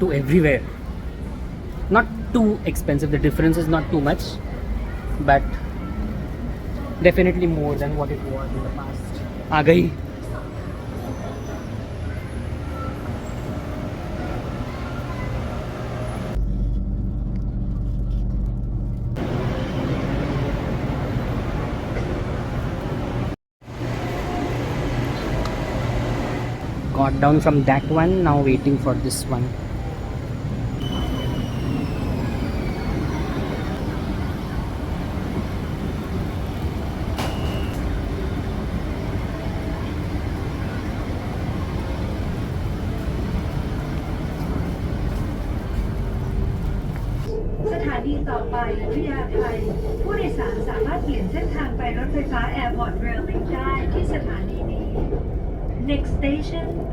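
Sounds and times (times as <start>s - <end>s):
metro train rumble: 0.0s - 56.9s.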